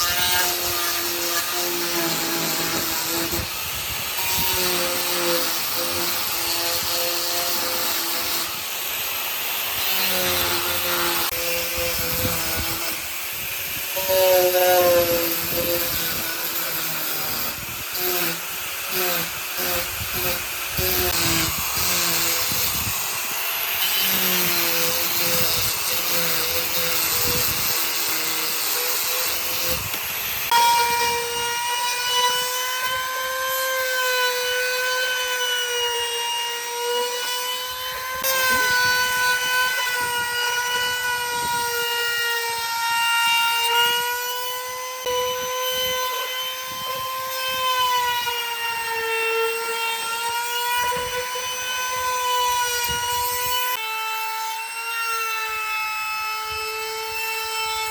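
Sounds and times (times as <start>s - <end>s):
power tool on wood: 0.0s - 57.9s.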